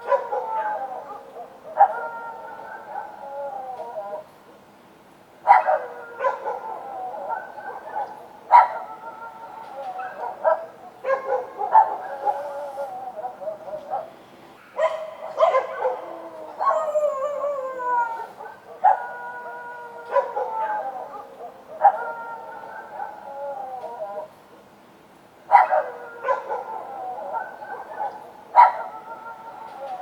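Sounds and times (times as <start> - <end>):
dogs barking: 0.0 - 3.2, 5.5 - 17.5, 18.3 - 24.0, 25.5 - 30.0
dogs howling: 0.0 - 4.3, 5.5 - 24.4, 25.5 - 30.0.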